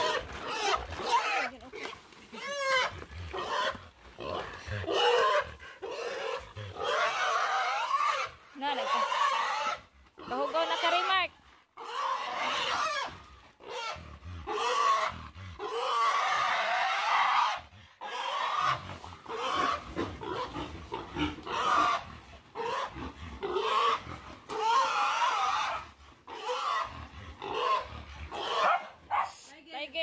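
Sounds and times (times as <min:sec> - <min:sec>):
pig squealing: 0:00.0 - 0:01.6, 0:02.3 - 0:29.4.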